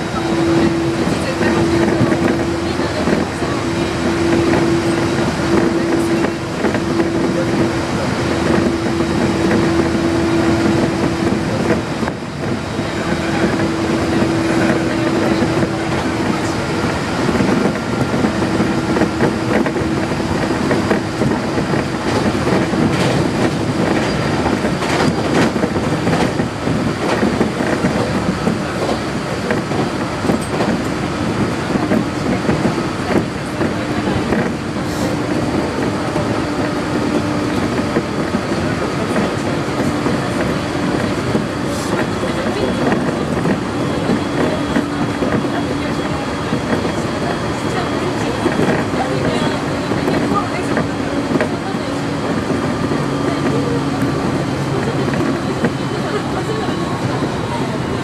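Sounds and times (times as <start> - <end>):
train hum: 0.0 - 58.0
train wheels rumbling on rail: 0.0 - 58.0
rail-joint clicks: 0.1 - 57.9.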